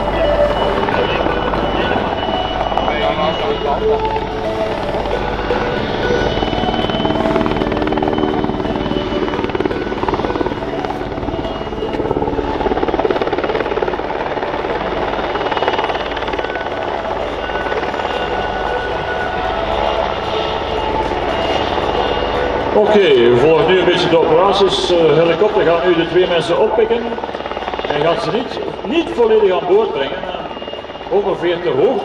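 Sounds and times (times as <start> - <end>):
helicopter flying low and hovering: 0.0 - 32.0.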